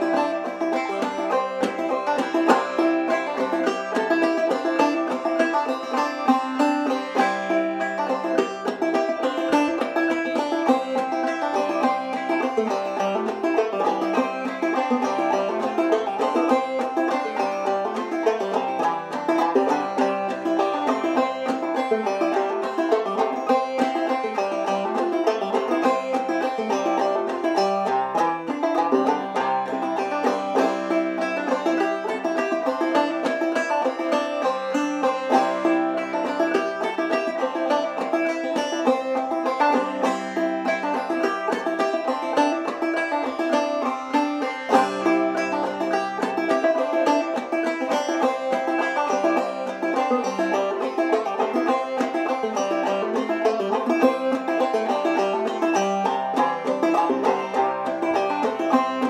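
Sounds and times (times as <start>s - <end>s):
banjo playing fiddle tune: 0.0s - 59.0s.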